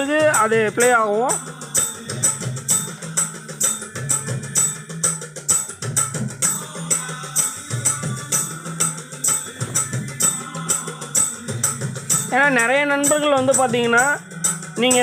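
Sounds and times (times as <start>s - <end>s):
tabla beat: 0.0s - 15.0s.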